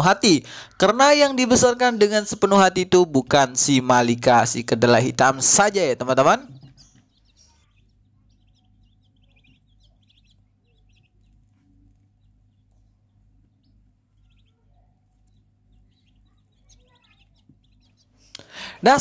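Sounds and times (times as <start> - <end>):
chicks peeping: 0.0 - 19.0
low steady hum: 0.0 - 19.0.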